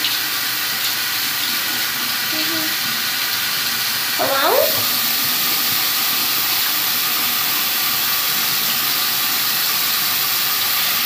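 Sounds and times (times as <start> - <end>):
tap running water: 0.0 - 11.0.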